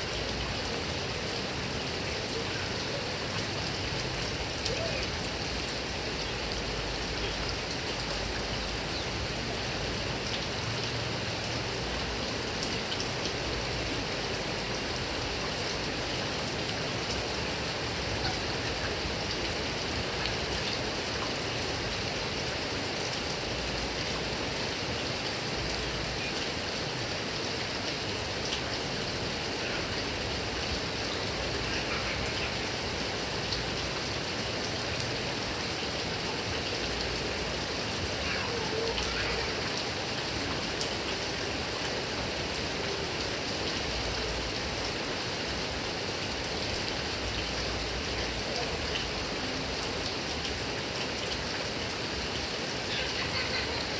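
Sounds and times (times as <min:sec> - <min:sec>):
heavy rain on grass: 0:00.0 - 0:53.9.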